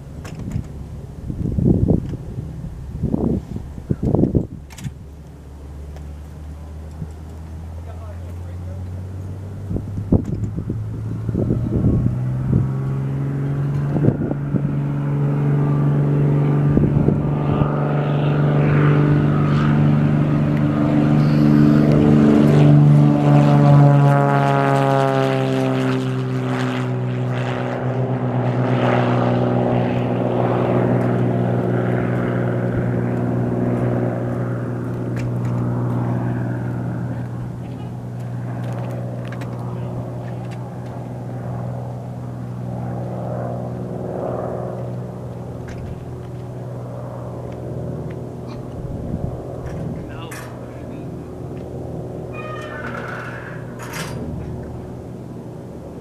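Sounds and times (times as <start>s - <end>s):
airplane engine and propeller: 0.0s - 56.0s.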